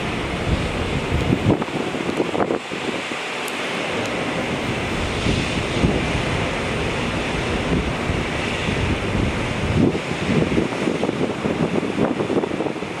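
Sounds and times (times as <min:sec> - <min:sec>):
distant jet engines rushing: 0:00.0 - 0:13.0
wind buffeting microphone: 0:00.0 - 0:13.0.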